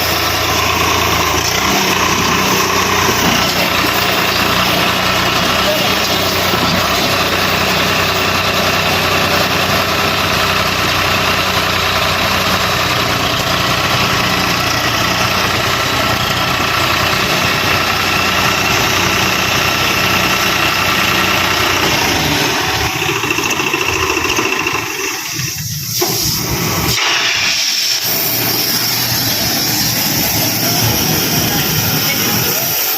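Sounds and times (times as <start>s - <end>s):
tractor diesel engine idling: 0.0s - 32.9s.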